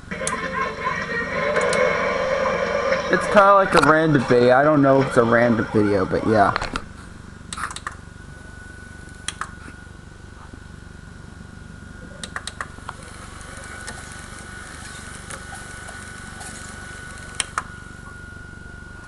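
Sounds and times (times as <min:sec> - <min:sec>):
vcr hum and whine: 0:00.0 - 0:19.0.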